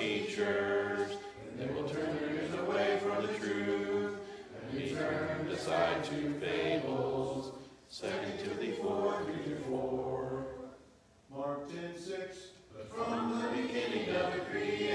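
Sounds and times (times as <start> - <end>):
children reciting in unison: 0.0 - 10.8, 12.8 - 14.9.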